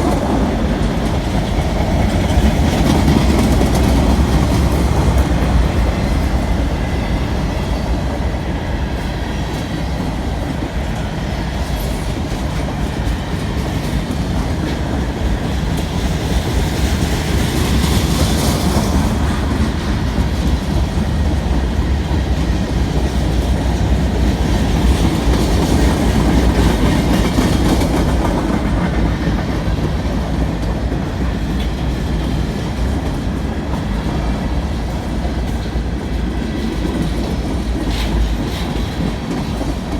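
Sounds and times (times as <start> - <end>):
clickety-clack over rail joints: 0.0 - 39.9
freight train wheels rumbling on rails: 0.0 - 39.9.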